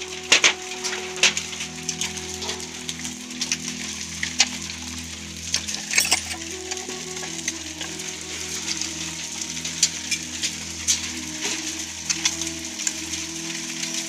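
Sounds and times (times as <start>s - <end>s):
hail falling: 0.0s - 14.0s.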